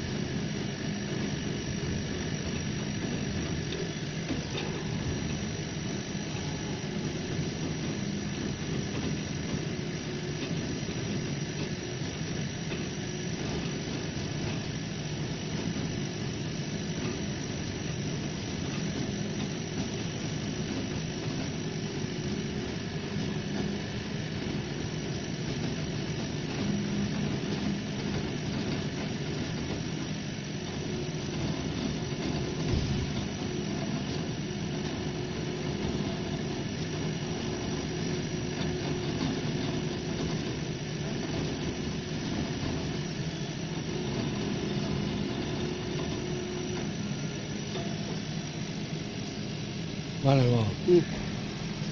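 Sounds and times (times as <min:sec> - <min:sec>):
laser engraver whirring: 0:00.0 - 0:51.9.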